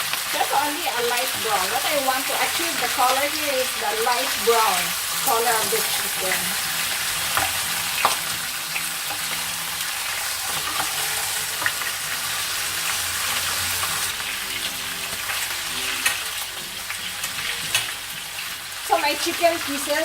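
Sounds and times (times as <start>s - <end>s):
chicken sizzling in oil: 0.0s - 20.0s
oil popping and crackling: 0.0s - 20.0s.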